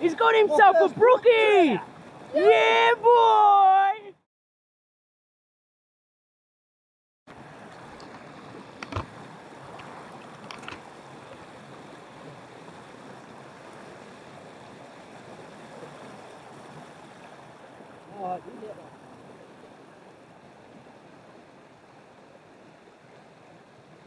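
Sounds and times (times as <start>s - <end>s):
stream water flowing: 0.0s - 4.1s, 7.3s - 24.0s.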